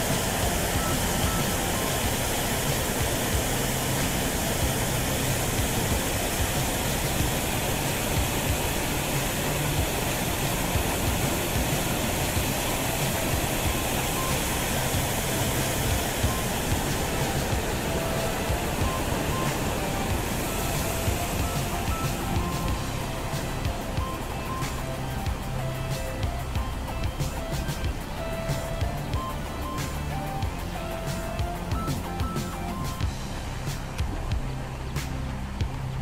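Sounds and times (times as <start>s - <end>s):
creek rushing over rocks: 0.0s - 36.0s.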